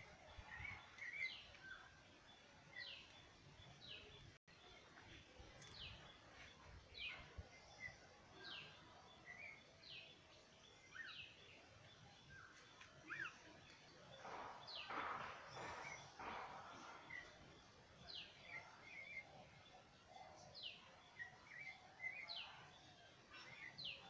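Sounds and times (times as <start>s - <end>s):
small bird chirps: 0.3s - 24.0s.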